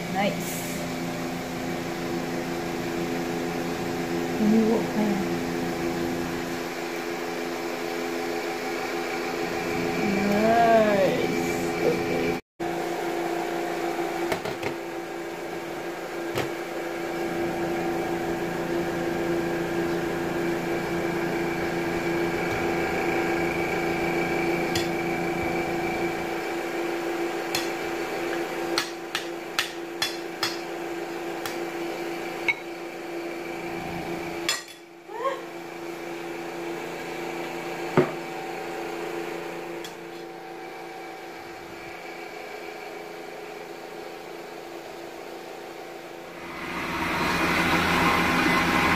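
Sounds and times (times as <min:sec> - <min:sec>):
appliance humming: 0:00.0 - 0:48.9.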